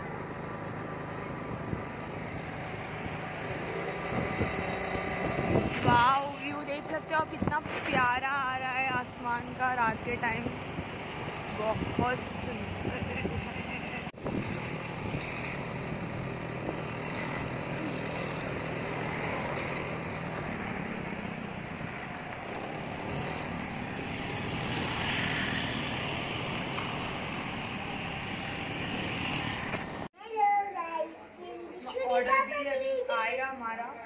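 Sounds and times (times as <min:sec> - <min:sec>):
road traffic hum: 0:00.0 - 0:30.2.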